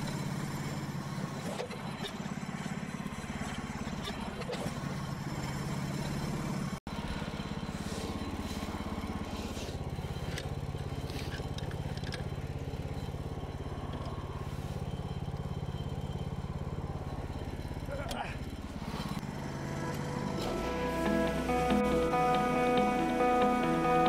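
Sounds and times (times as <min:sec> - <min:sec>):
small gasoline engine humming: 0:00.0 - 0:24.0.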